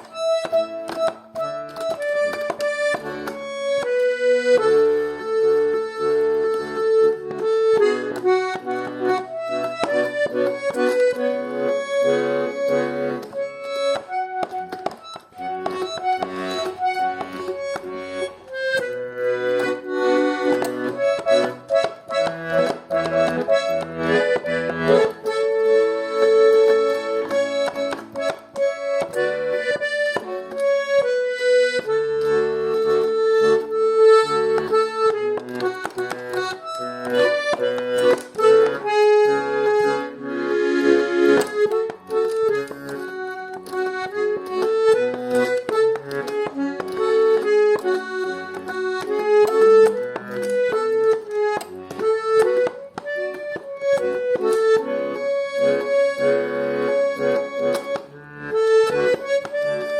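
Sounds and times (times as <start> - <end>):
button accordion melody: 0.0 - 59.9.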